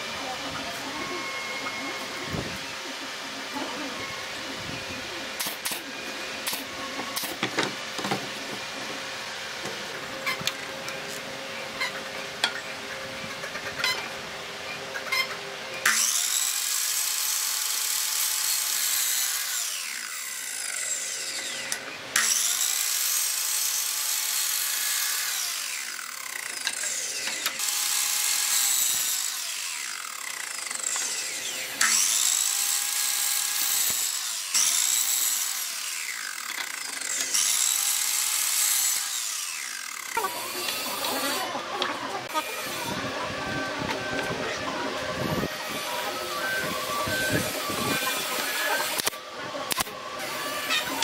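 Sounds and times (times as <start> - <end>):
miter saw cutting wood: 0.0 - 51.0.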